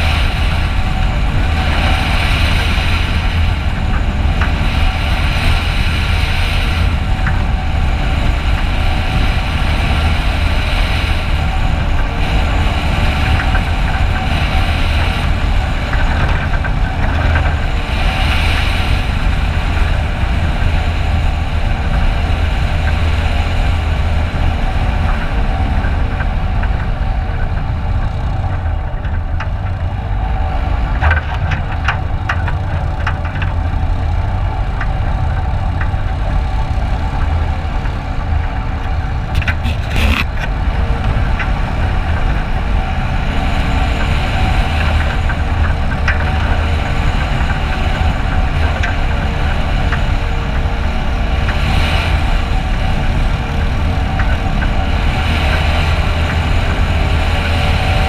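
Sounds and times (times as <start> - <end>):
diesel engine low rumble: 0.0 - 58.0.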